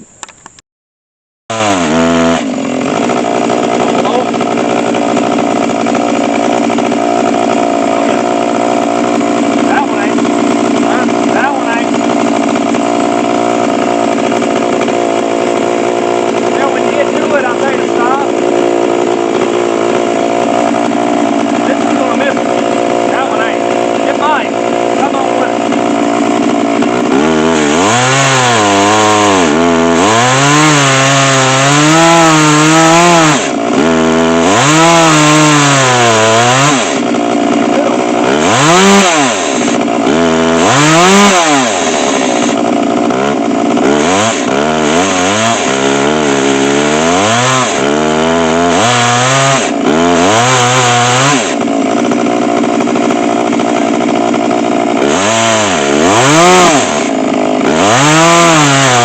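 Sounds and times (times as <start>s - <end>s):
chainsaw cutting log: 1.5s - 59.0s.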